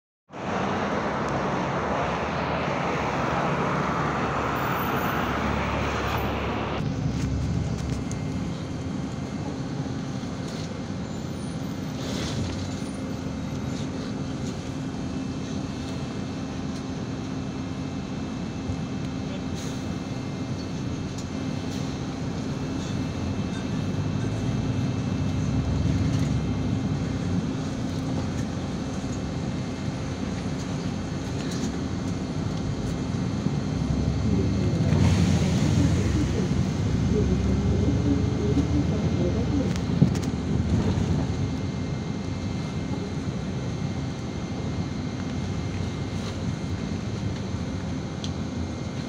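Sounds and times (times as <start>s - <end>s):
bus engine drone: 0.3s - 49.0s
road noise: 0.3s - 49.0s
street traffic noise: 0.3s - 49.0s.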